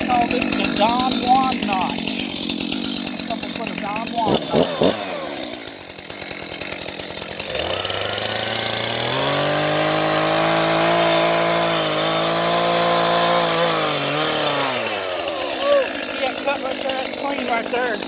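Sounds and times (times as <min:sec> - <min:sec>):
chainsaw cutting tree trunk: 0:00.0 - 0:18.0.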